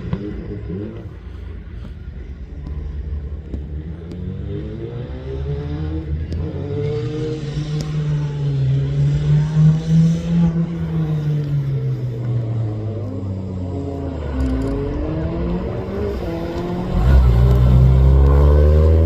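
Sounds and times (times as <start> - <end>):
rally car engine under load: 0.0 - 19.0.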